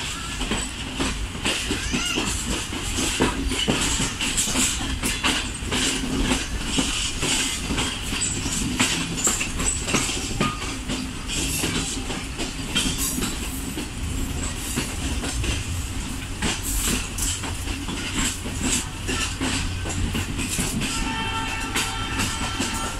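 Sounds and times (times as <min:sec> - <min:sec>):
train running gear rumble: 0:00.0 - 0:22.9
wheels clacking over rail joints: 0:00.0 - 0:22.9.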